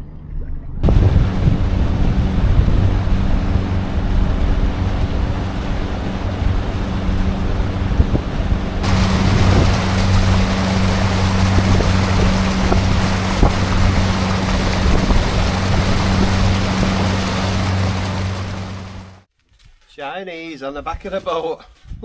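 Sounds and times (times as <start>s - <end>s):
wind: 0.0s - 22.0s
outboard motor running: 0.8s - 19.2s
water rushing: 0.8s - 19.3s.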